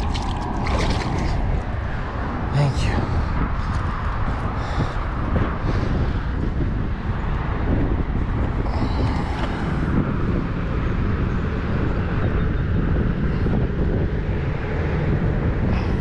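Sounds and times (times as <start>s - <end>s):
low rumbling outdoor noise: 0.0s - 16.0s.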